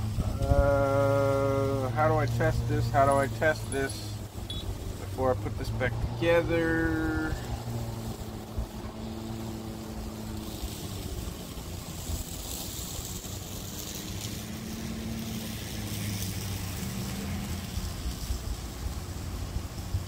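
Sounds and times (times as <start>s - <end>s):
distant engine hum: 0.0s - 20.0s.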